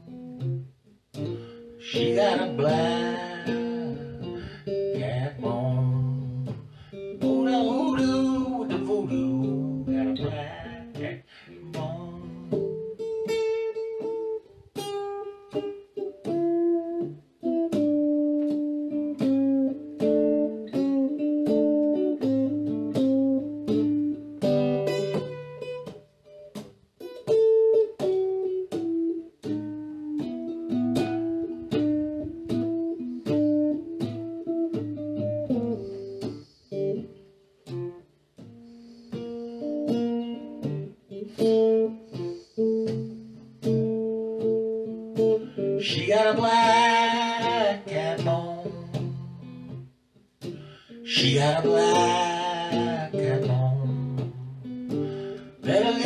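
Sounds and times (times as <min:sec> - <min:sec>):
electric guitar blues playing: 0:00.0 - 0:56.0.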